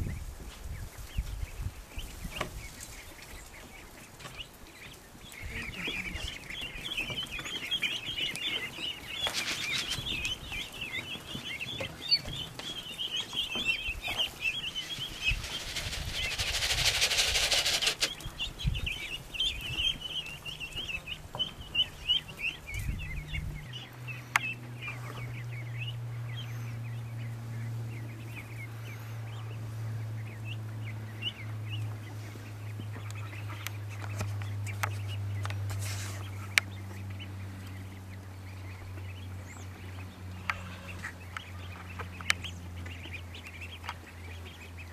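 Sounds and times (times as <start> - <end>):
ducklings peeping: 0.0 - 44.9
steady low hum: 0.0 - 44.9.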